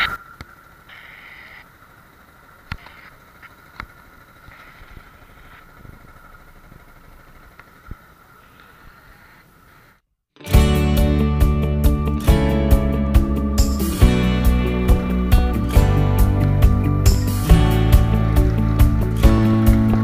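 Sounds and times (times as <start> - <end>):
motorcycle engines idling: 0.0 - 9.7, 10.5 - 20.0.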